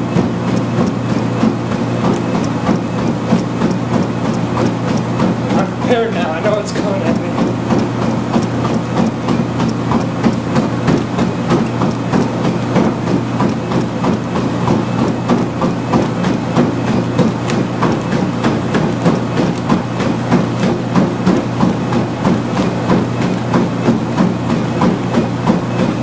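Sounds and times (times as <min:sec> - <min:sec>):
running footfalls on treadmill belt: 0:00.0 - 0:26.0
treadmill motor hum: 0:00.0 - 0:26.0.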